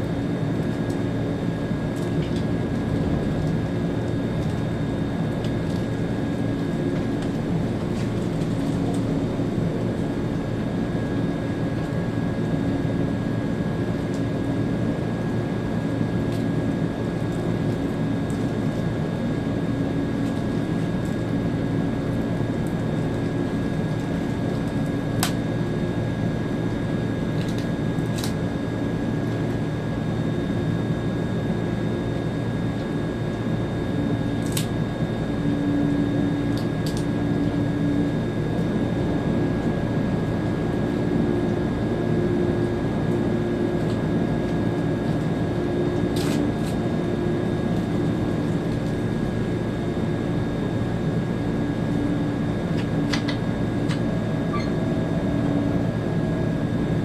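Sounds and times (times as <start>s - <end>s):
train cab running hum: 0.0s - 57.0s.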